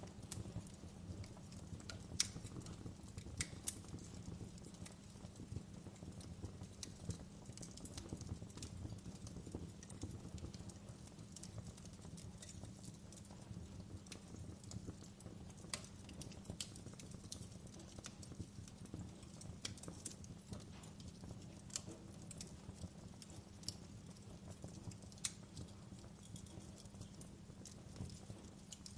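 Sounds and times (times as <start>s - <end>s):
low rumble of flames: 0.0s - 28.9s
wood fire crackling and popping: 0.0s - 28.9s.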